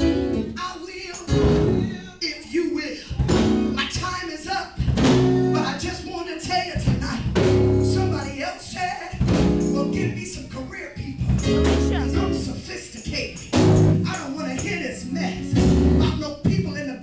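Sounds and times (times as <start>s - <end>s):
gospel band playing: 0.0s - 2.2s, 3.0s - 8.5s, 9.1s - 16.9s
person singing: 0.0s - 17.0s.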